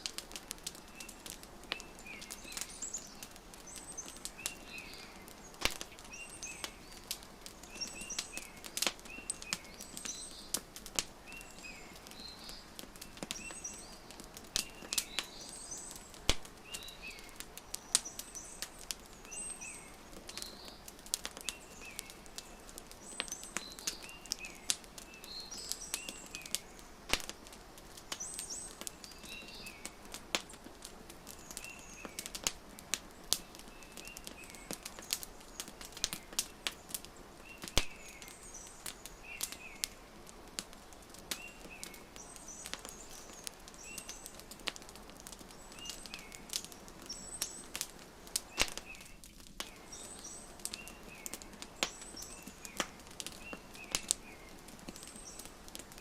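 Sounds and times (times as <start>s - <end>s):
small birds chirping: 0.0s - 56.0s
wood fire crackling and popping: 0.0s - 56.0s.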